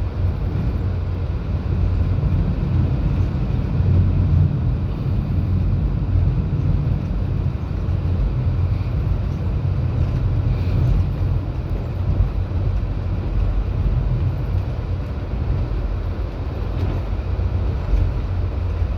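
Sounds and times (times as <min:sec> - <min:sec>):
train rushing noise: 0:00.0 - 0:18.9
train wheels rumbling: 0:00.0 - 0:18.9.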